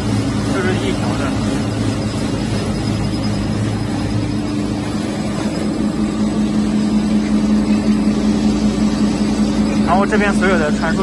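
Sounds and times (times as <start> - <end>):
low drone: 0.0 - 11.0
machine motors humming: 0.0 - 11.0.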